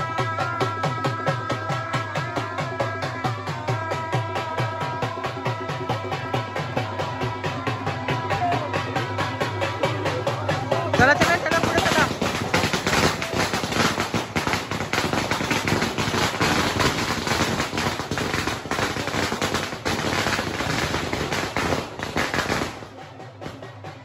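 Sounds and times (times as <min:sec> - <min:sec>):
firecrackers crackling: 0:03.0 - 0:23.7.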